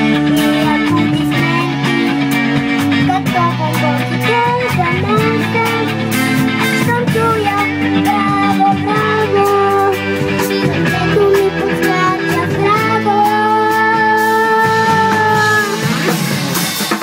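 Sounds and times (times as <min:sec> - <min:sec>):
girl singing: 0:00.0 - 0:15.9
drum kit: 0:00.0 - 0:17.0
electric guitar: 0:00.0 - 0:17.0.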